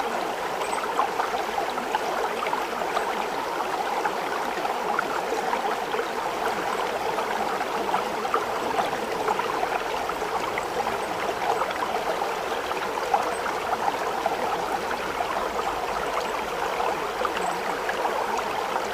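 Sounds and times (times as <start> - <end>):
running water babbling: 0.0 - 18.9.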